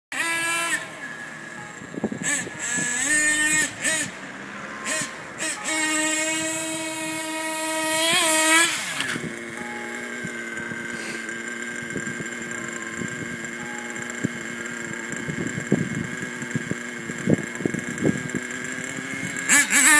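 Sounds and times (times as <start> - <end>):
small motors whining: 0.1 - 19.9.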